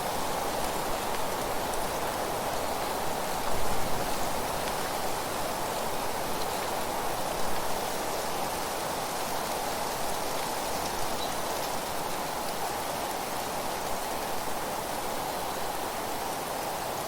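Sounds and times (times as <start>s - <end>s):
wind rustling through trees: 0.0s - 17.0s.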